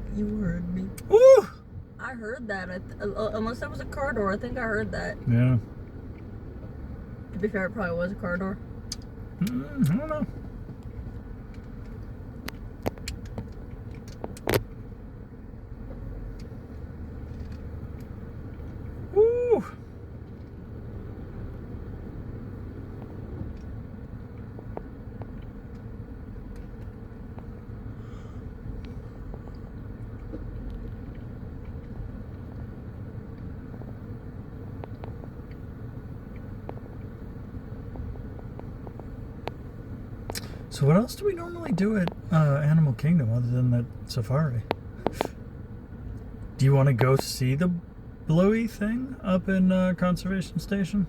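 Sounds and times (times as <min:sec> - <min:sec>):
low rumble of traffic: 0:00.0 - 0:51.0.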